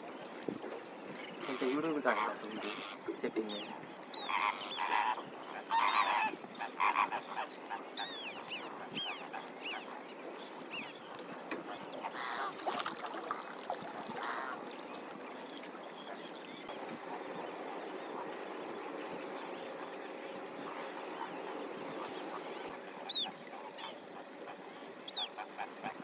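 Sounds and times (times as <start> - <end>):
flamingos honking: 1.2 - 26.0.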